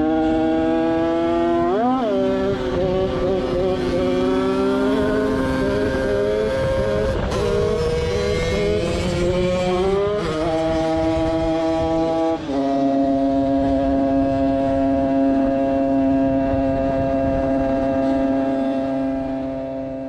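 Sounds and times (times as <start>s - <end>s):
two-stroke moped engine revving high: 0.0s - 20.0s.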